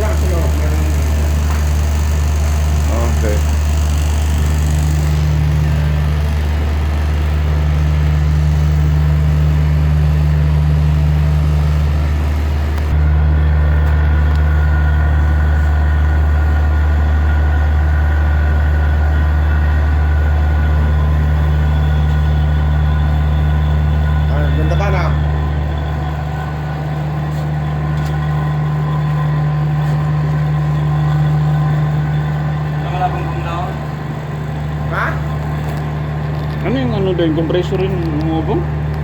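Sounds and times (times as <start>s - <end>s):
electric motor humming: 0.0s - 39.0s.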